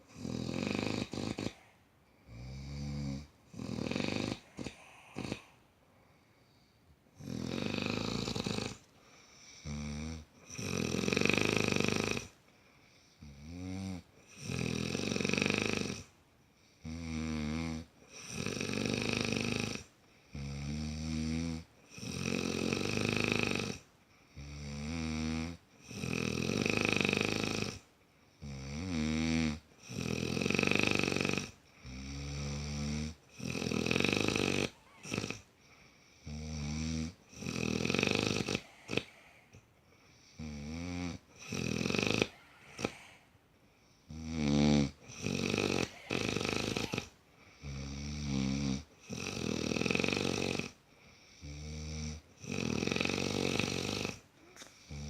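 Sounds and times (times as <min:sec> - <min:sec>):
man snoring loudly: 0:00.0 - 0:01.7, 0:02.3 - 0:05.6, 0:07.2 - 0:12.4, 0:13.2 - 0:16.1, 0:16.8 - 0:23.8, 0:24.4 - 0:27.8, 0:28.4 - 0:35.5, 0:36.2 - 0:39.4, 0:40.2 - 0:43.3, 0:44.1 - 0:55.0.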